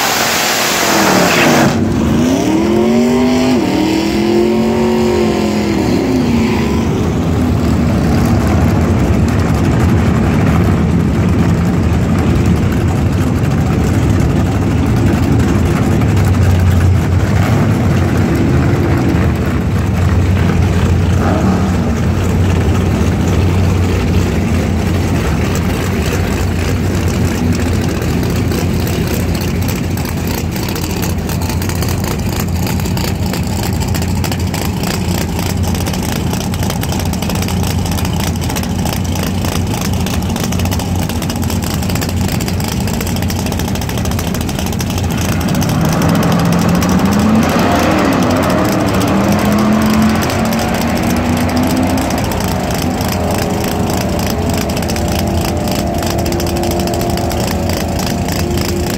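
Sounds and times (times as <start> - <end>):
car engine idling loudly: 0.0 - 58.9.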